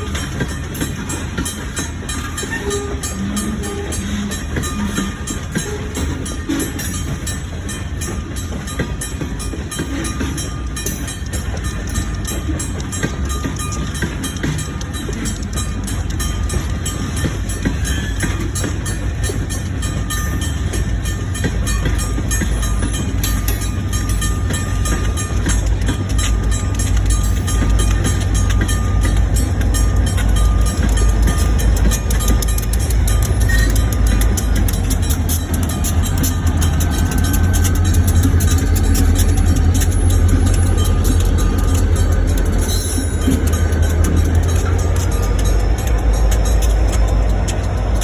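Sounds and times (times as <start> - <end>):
regular ticking: 0.0 - 48.0
train cars rumbling: 0.0 - 48.0.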